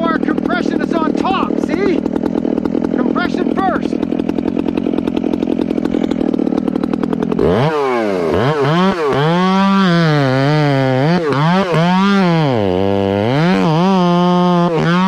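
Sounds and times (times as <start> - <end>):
chainsaw engine idling and revving: 0.0 - 15.0.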